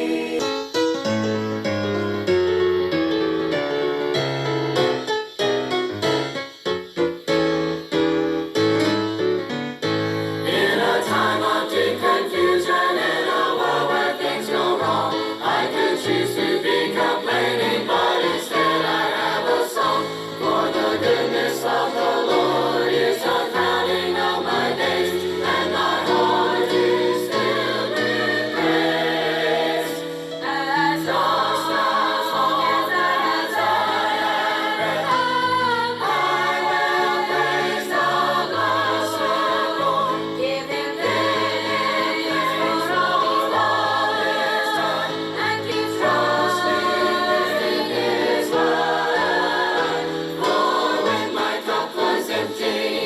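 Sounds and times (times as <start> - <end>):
choir singing gospel: 0.0 - 1.3, 10.2 - 53.0
piano playing: 0.0 - 52.6.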